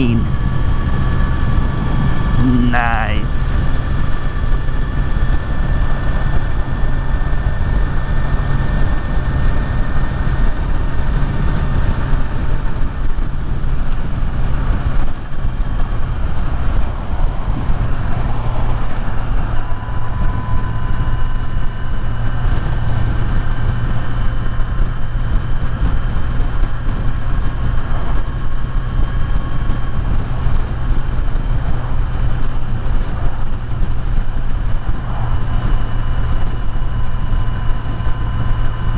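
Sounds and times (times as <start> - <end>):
wind and road noise: 0.0 - 2.4, 3.6 - 38.9.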